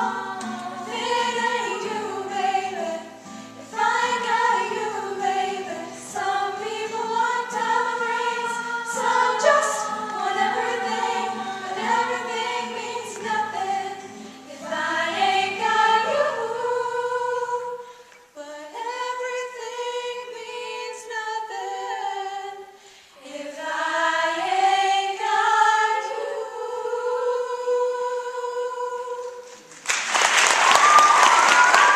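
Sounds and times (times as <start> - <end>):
a cappella choir singing: 0.0 - 29.7.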